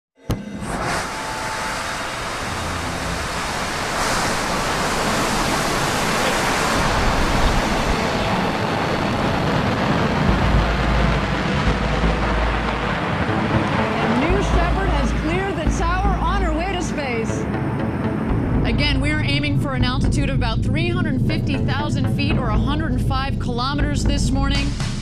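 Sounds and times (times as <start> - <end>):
rocket engine roaring: 0.3 - 25.0.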